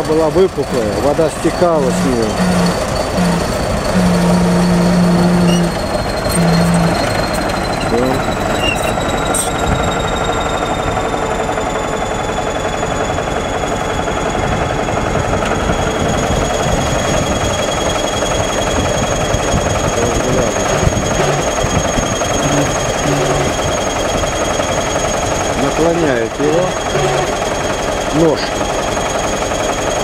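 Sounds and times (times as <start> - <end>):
bulldozer diesel engine under load: 0.0 - 30.0
thin high whine: 0.6 - 11.7, 15.6 - 30.0.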